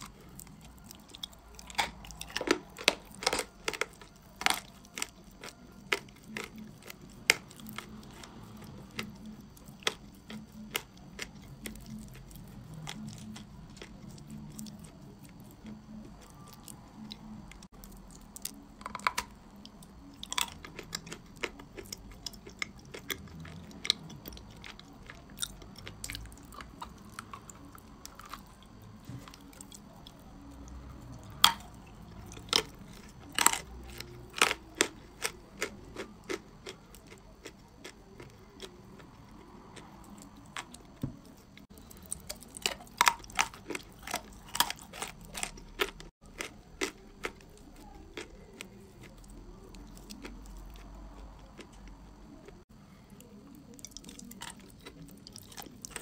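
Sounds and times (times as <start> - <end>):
chalk crunching while chewing: 0.0 - 56.0.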